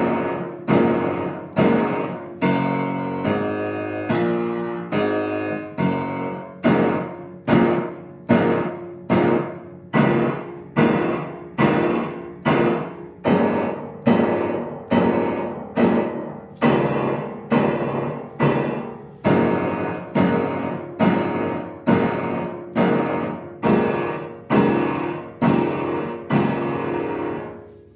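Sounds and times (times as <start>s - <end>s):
piano chords: 0.0s - 27.9s.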